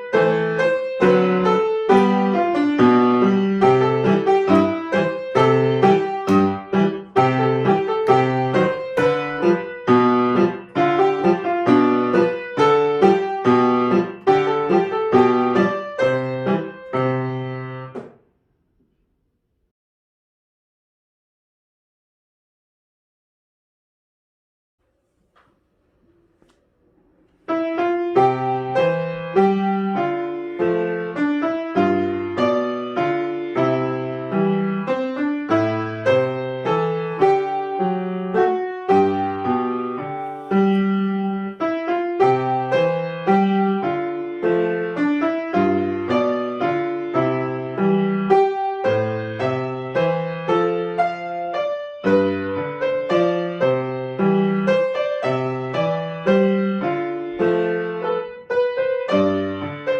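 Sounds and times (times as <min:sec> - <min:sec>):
solo piano piece: 0:00.0 - 0:18.3, 0:24.8 - 0:59.9.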